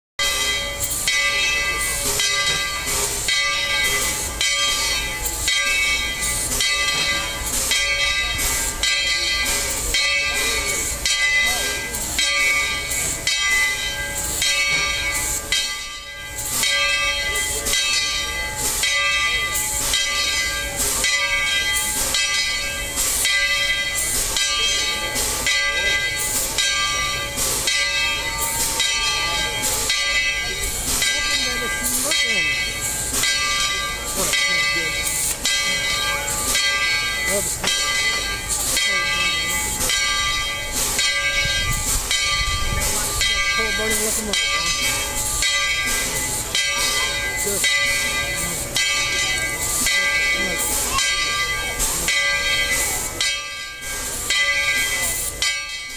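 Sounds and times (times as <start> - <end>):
regular steam pulse: 0.2 - 55.9
steam locomotive hissing: 0.2 - 55.9.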